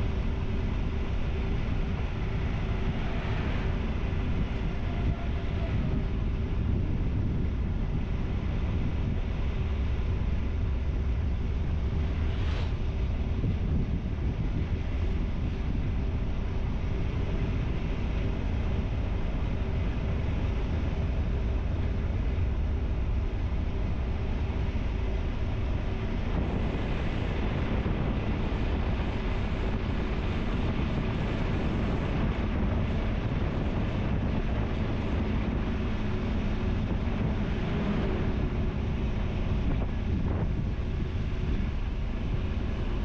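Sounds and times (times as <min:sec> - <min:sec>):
motorcycle engine hum: 0:00.0 - 0:43.0
wind rushing on microphone: 0:00.0 - 0:43.0.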